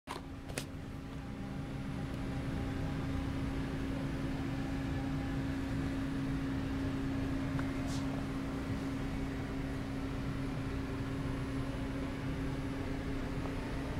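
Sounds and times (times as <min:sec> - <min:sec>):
film recorder motor hum: 0:00.1 - 0:13.9.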